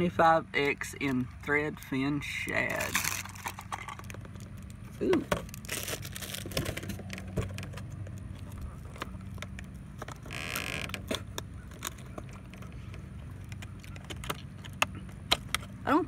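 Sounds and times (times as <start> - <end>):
plastic packaging clicks and rustles: 2.6 - 15.8.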